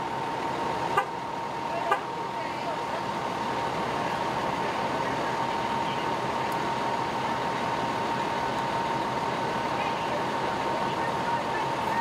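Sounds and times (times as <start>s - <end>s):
fire engines idling: 0.0s - 12.0s.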